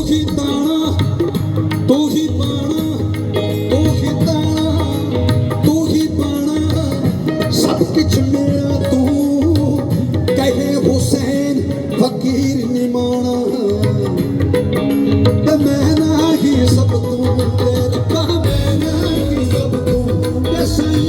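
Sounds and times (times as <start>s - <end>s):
steady drums: 0.0s - 21.0s.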